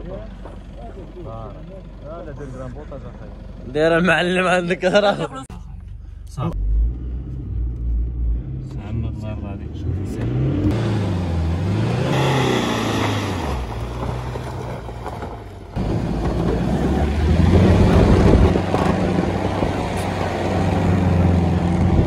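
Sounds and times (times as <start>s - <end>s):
tyres on dirt and stones: 0.0s - 6.1s, 10.0s - 22.0s
car engine labouring: 0.0s - 22.0s.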